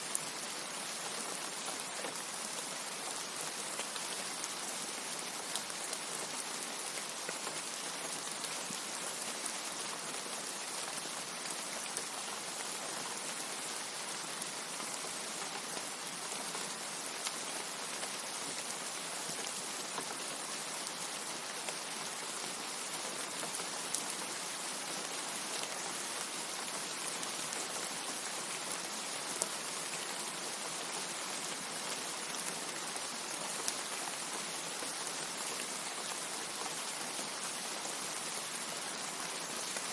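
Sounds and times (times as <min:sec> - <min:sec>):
steady heavy rain: 0:00.0 - 0:39.9.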